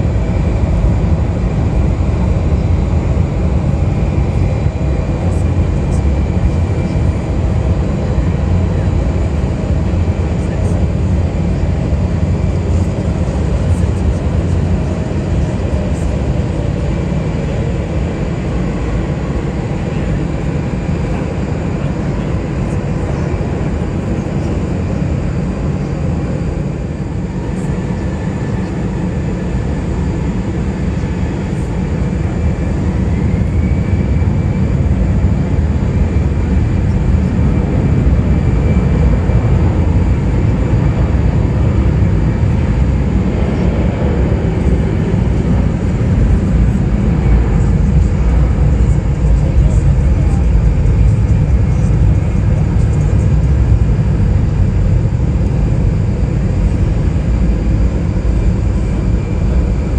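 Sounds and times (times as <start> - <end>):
high engine whine: 0.0 - 59.9
jet engines rumbling: 0.0 - 59.9.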